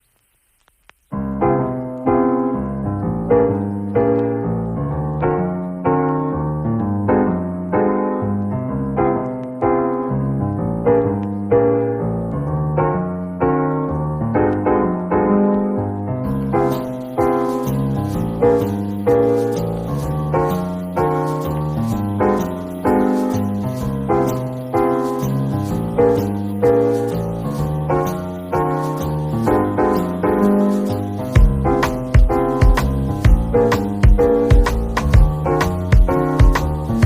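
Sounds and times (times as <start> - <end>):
piano chords ringing: 1.1 - 37.0.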